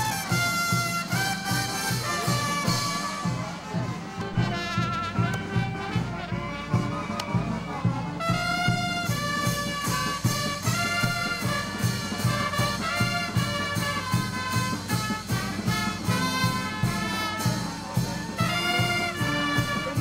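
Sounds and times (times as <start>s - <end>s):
festive band music: 0.0s - 20.0s.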